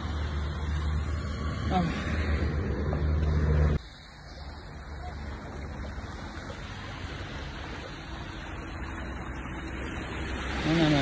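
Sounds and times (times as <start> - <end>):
outdoor rushing noise: 0.0 - 11.0.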